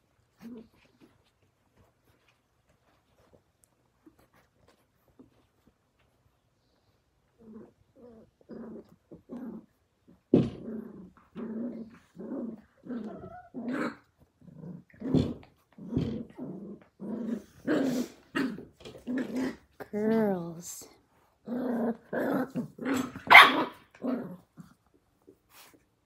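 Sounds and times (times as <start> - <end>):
puppies growling: 0.0 - 19.8, 21.2 - 25.8.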